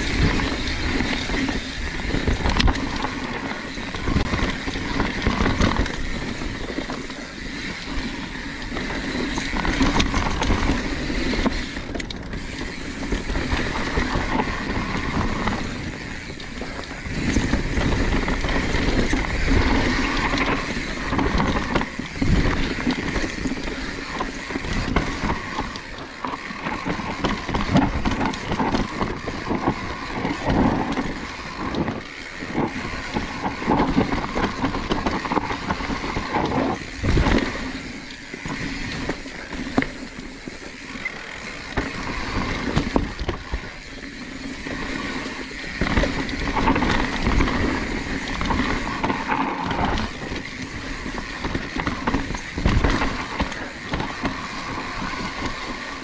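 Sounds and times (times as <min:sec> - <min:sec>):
bike knocking and rattling: 0:00.0 - 0:56.0
tyres rumbling on dirt: 0:00.0 - 0:56.0
wind on microphone: 0:00.0 - 0:56.0.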